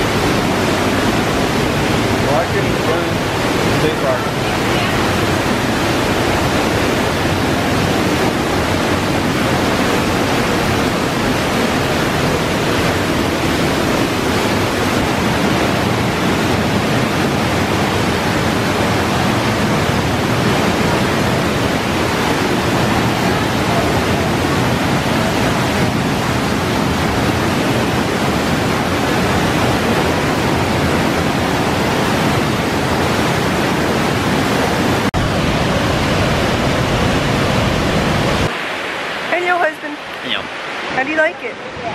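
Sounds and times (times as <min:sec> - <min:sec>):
waterfall rushing onto rocks: 0:00.0 - 0:41.9.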